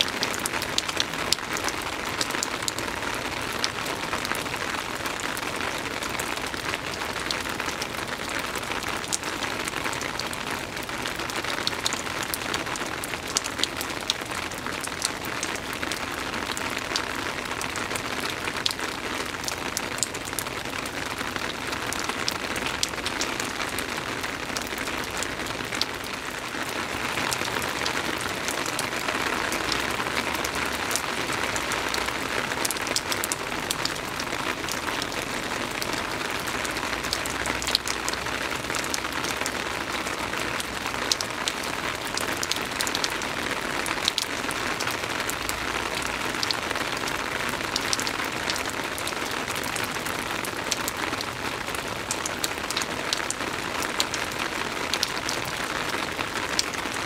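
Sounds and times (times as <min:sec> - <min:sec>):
raindrops ticking on a surface: 0:00.0 - 0:57.0
soft rain hiss: 0:00.0 - 0:57.0.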